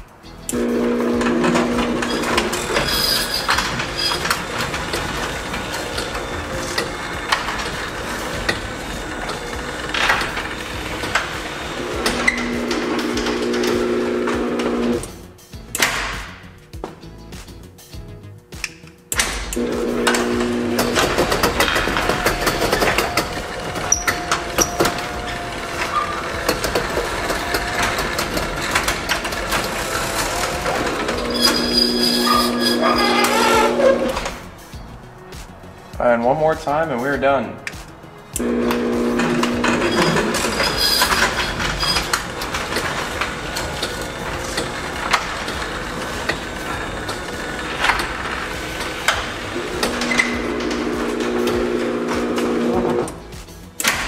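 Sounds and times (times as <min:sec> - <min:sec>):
garage door opener running: 0:00.5 - 0:15.9, 0:19.2 - 0:34.5, 0:38.3 - 0:54.0
garage door clicks and rattles: 0:01.2 - 0:15.2, 0:19.2 - 0:34.5, 0:38.4 - 0:54.0.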